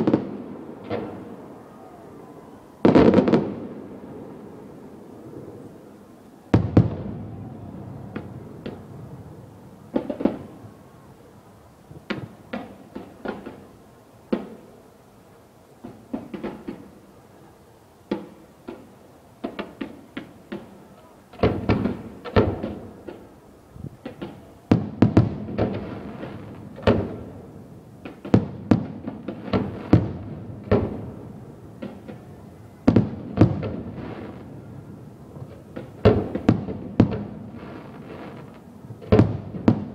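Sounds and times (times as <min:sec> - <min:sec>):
fireworks bangs: 0:00.0 - 0:11.0, 0:11.9 - 0:14.8, 0:18.1 - 0:39.9.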